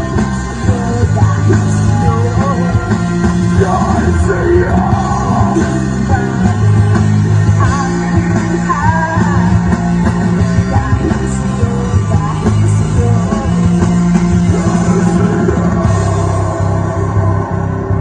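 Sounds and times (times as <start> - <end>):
person singing: 0.0 - 17.1
rock band playing live: 0.0 - 18.0.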